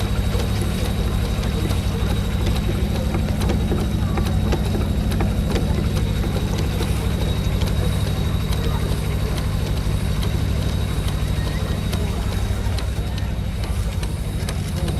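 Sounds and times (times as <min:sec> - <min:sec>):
engine running: 0:00.0 - 0:14.9
sharp metallic ticks: 0:00.0 - 0:14.9.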